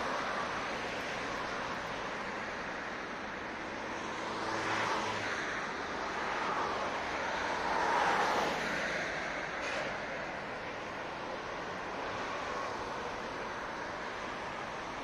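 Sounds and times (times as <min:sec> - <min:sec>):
road noise hum: 0:00.0 - 0:15.0
vehicles passing: 0:00.0 - 0:15.0.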